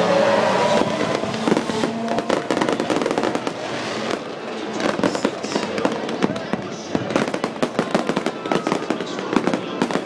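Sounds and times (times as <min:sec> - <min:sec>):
fireworks bangs and crackles: 0:00.5 - 0:10.0.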